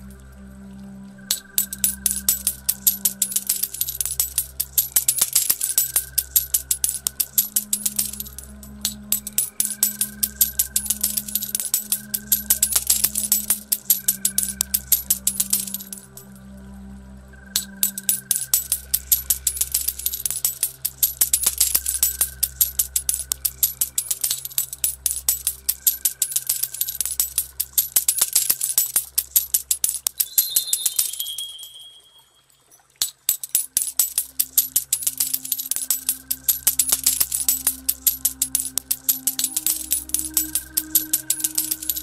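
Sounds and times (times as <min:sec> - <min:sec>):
ambient music drone: 0:00.0 - 0:27.8, 0:35.2 - 0:42.0
coins clinking and jingling: 0:01.3 - 0:16.4, 0:17.6 - 0:32.0, 0:33.0 - 0:42.0.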